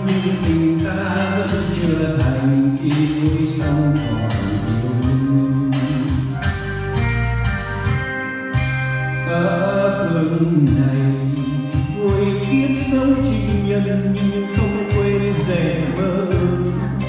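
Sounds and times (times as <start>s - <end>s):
man singing into a microphone: 0.0s - 6.6s, 9.2s - 17.0s
karaoke backing music: 0.0s - 17.0s.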